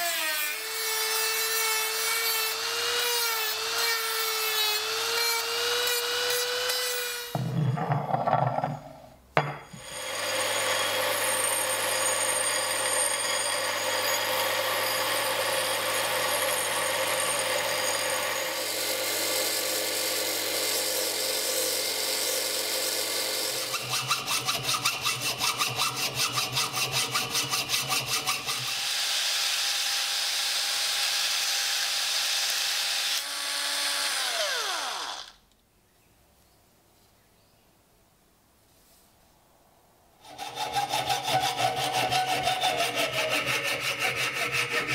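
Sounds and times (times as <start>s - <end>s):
belt grinder grinding metal: 0.0s - 7.6s, 9.8s - 35.4s, 40.3s - 44.9s.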